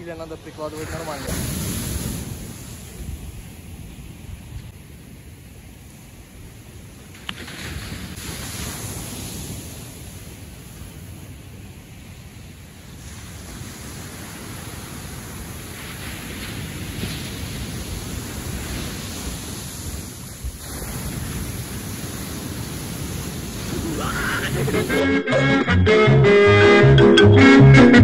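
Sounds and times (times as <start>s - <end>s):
ocean surf breaking on beach: 0.0s - 25.0s.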